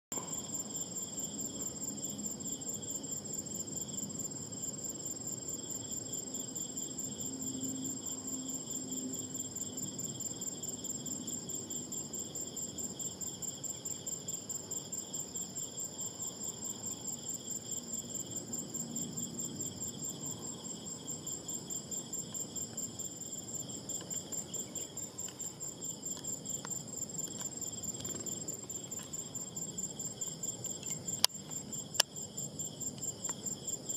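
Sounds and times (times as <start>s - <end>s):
insects trilling: 0.2s - 33.9s.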